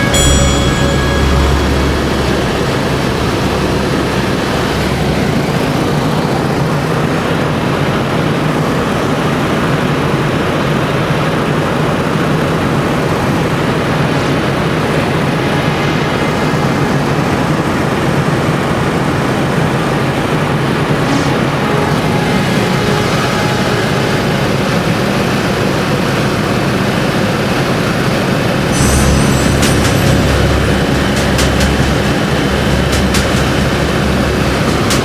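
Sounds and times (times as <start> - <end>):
propeller airplane engine drone: 0.0 - 35.0.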